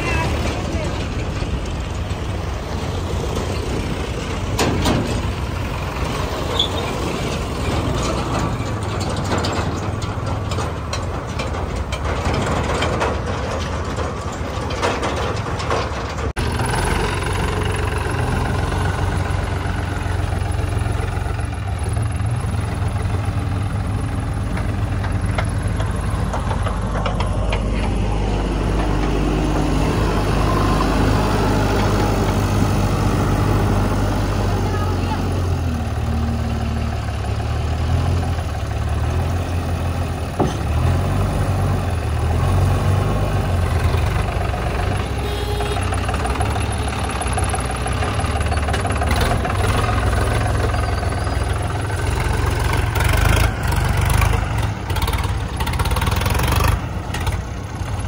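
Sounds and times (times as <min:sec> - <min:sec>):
clattering rattles of trolleys: 0:00.0 - 0:58.0
tractor diesel engines running: 0:00.0 - 0:58.0.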